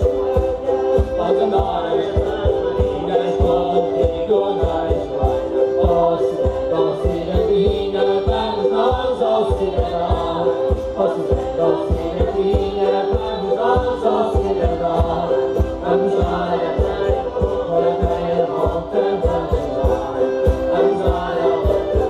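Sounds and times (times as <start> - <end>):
group singing folk music: 0.0 - 22.0.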